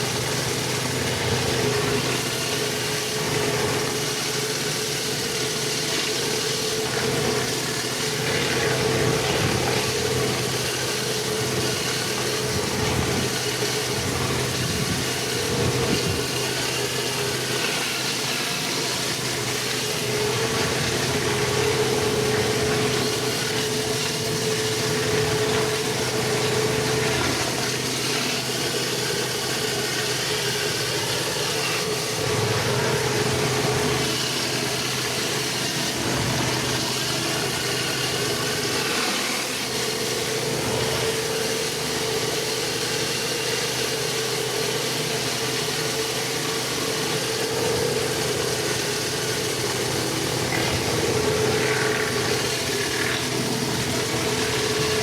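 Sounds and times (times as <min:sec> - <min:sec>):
pressure washer engine and pump: 0:00.0 - 0:55.0.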